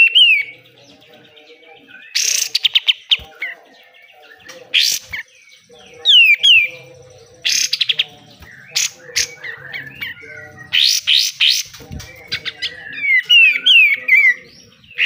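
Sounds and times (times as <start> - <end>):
bulbul singing rapid bursts: 2.0 - 15.0.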